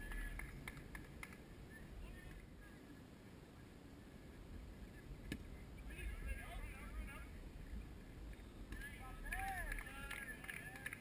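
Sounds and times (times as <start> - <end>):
low wind rumble: 0.0 - 10.4
faint distant voices: 0.0 - 11.0.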